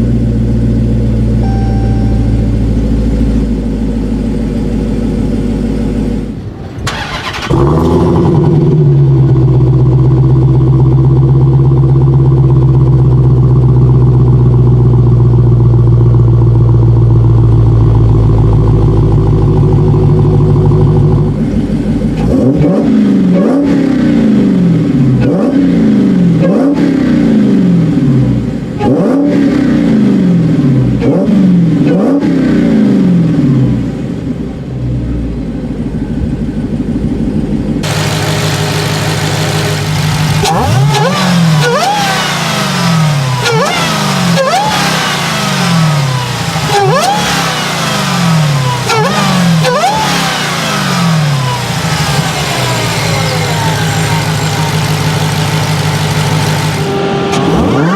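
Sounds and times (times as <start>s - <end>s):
supercharged car engine revving: 0.0s - 14.2s, 18.3s - 34.3s, 37.6s - 57.9s.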